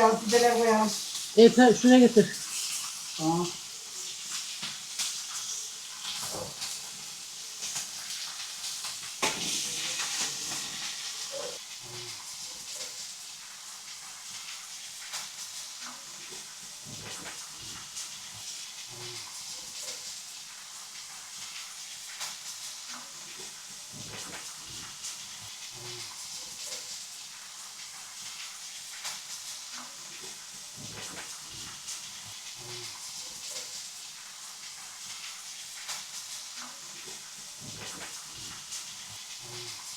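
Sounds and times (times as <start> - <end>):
meat and vegetables sizzling: 0.0 - 39.9.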